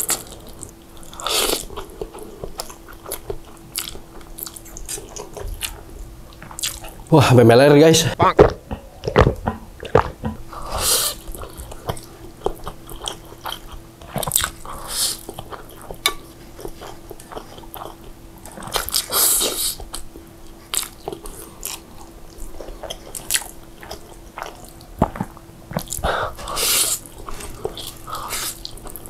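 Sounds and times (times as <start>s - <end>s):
chewing: 0.0s - 7.1s, 9.8s - 29.0s
faint steady hum: 0.0s - 29.0s.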